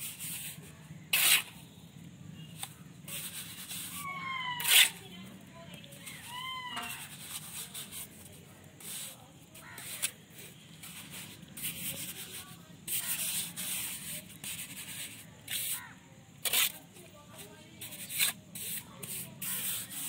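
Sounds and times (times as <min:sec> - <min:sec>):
trowel scraping mortar: 0:00.0 - 0:01.6, 0:02.5 - 0:05.1, 0:05.8 - 0:20.0.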